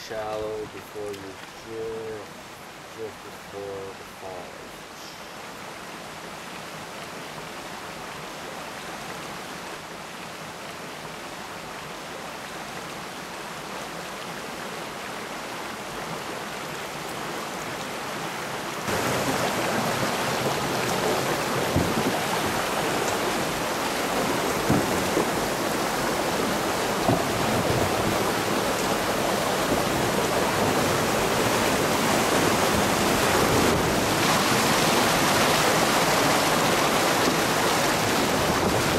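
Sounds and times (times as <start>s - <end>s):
whitewater rushing over rocks: 0.0s - 38.9s.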